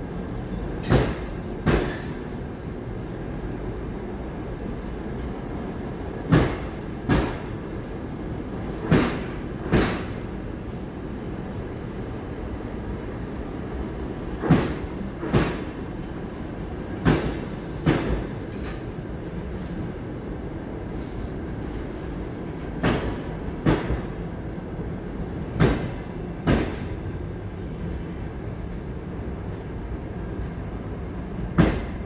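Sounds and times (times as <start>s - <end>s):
train coaches rumbling past: 0.0s - 32.0s.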